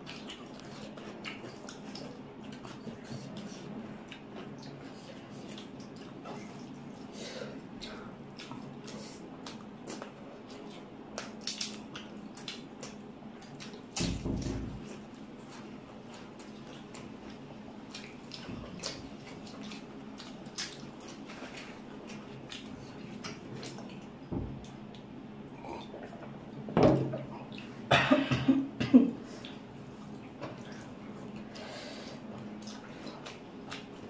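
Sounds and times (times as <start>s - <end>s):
wet chewing and smacking: 0.0s - 26.6s, 32.2s - 34.0s.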